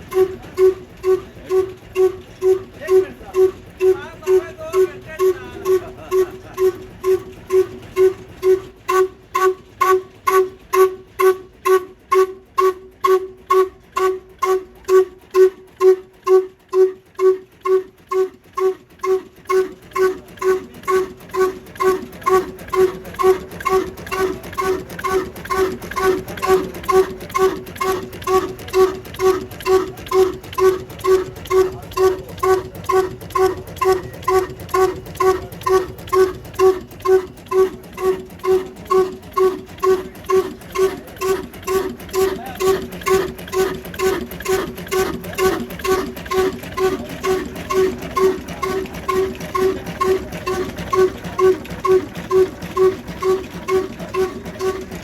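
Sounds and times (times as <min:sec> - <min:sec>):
diesel engine exhaust pulses: 0:00.0 - 0:55.0.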